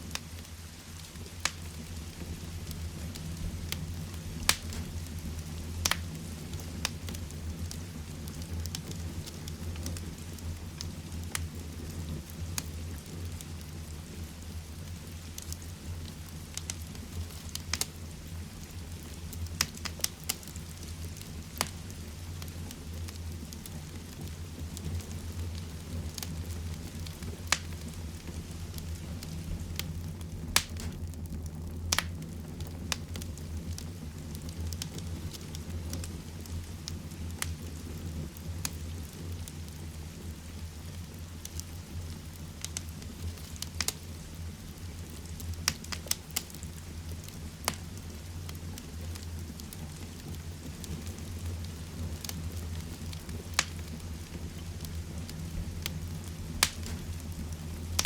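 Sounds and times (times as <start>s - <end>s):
fireplace fire crackling: 0.0s - 58.0s.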